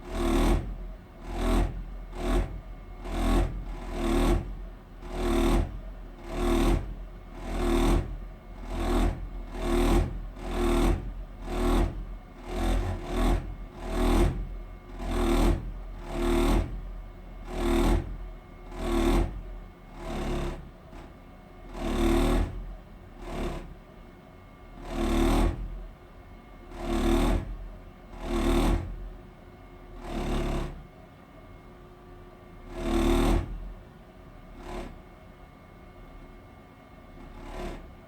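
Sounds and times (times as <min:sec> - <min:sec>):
gas boiler pulsing hum: 0:00.0 - 0:38.0.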